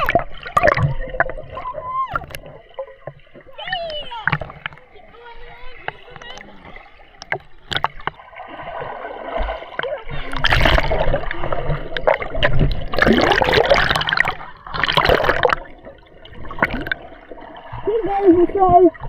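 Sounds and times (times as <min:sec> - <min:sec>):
seawater splashing and gurgling: 0:00.0 - 0:19.0.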